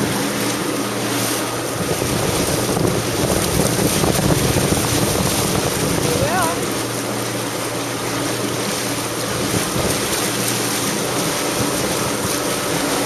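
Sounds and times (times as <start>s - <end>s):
jet ski engine humming: 0.0s - 13.0s
water rushing: 0.0s - 13.0s.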